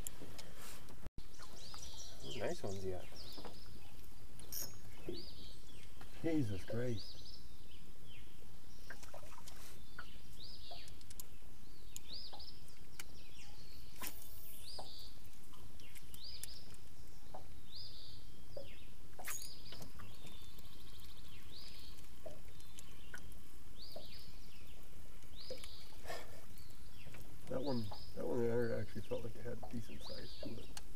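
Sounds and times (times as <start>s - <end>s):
birds calling with high notes: 1.2s - 30.9s.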